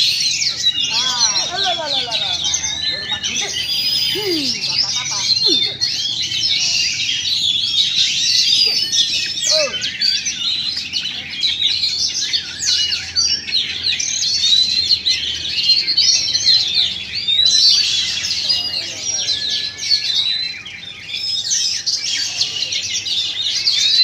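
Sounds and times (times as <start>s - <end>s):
chorus of birds singing: 0.0s - 24.0s.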